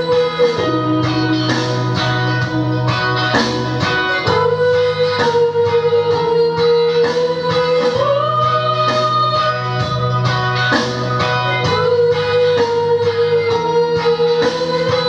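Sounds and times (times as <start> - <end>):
guitar accompaniment: 0.0 - 15.0
steady bass: 0.0 - 15.0.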